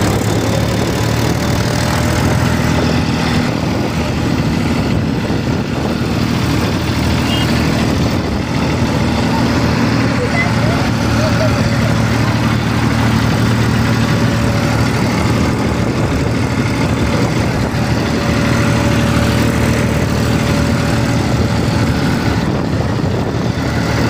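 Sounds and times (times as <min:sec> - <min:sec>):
tractor engine low drone: 0:00.0 - 0:24.0.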